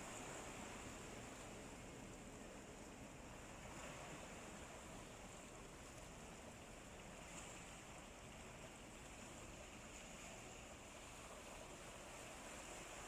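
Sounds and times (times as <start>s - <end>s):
faint sea surf: 0.0s - 13.0s.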